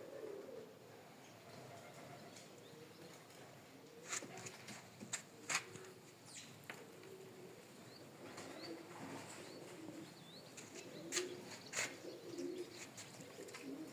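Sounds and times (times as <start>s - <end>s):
pigeons cooing: 0.0s - 13.9s.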